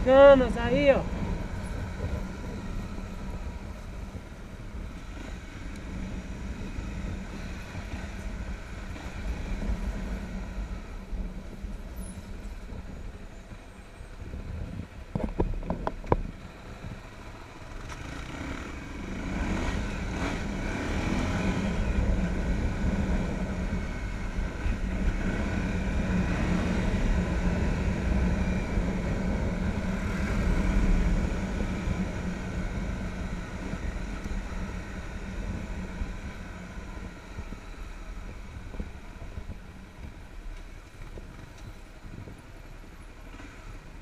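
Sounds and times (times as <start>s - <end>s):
wind noise on microphone: 0.0s - 17.4s, 18.9s - 44.0s
motorcycle engine running: 0.0s - 44.0s.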